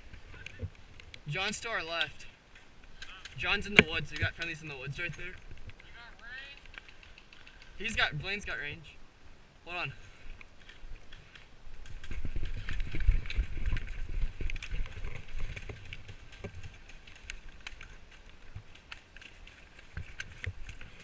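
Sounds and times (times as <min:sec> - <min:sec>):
small clicks and knocks: 0:02.0 - 0:08.3, 0:10.4 - 0:21.0.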